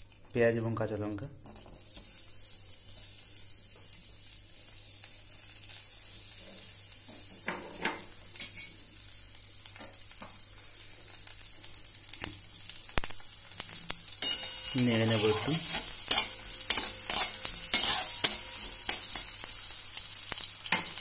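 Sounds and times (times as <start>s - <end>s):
onion sizzling in hot oil: 1.3s - 21.0s.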